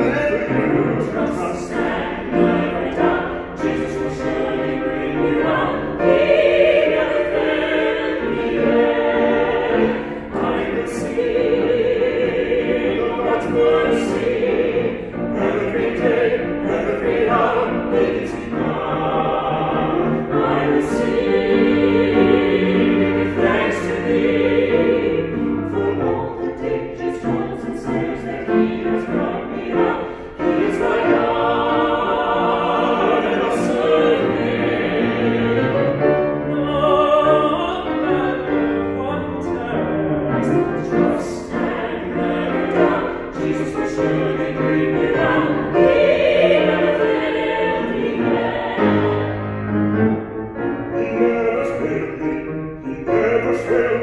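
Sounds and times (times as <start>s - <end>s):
grand piano: 0.0s - 54.0s
vocal ensemble singing: 0.0s - 54.0s.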